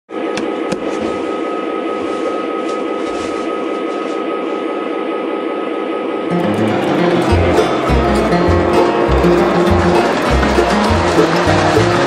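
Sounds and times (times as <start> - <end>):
thin steady whine: 0.1 - 11.4.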